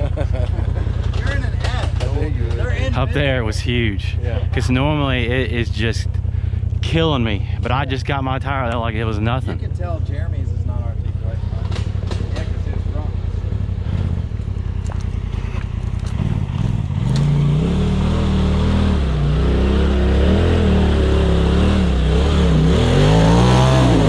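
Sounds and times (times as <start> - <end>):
engine revving: 0.9 - 24.0.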